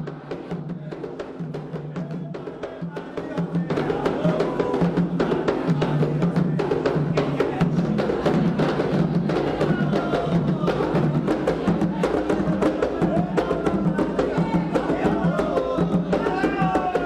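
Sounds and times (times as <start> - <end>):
hand drums playing fast rhythm: 0.0 - 17.0.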